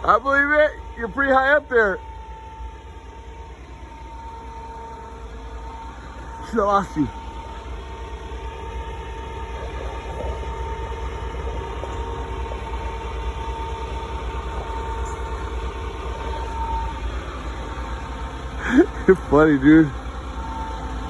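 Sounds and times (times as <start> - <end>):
heavy engine idling: 0.0 - 21.0
steady whine: 0.0 - 21.0.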